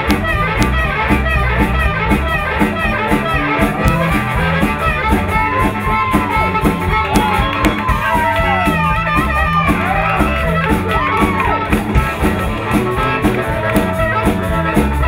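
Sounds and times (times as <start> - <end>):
bass guitar: 0.0 - 15.0
drum kit beat: 0.0 - 15.0
electric guitars: 0.0 - 15.0
harmonica lead: 0.0 - 15.0.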